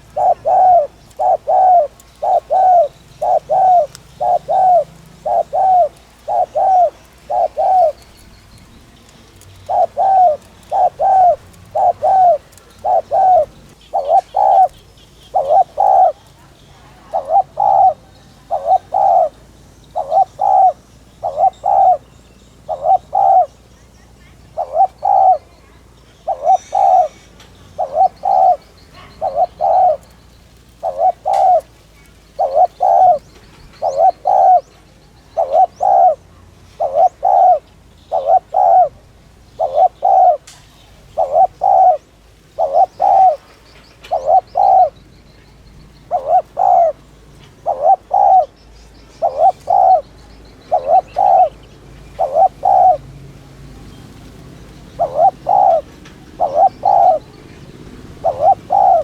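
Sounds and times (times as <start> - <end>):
dove cooing: 0.0 - 53.1, 53.8 - 59.0.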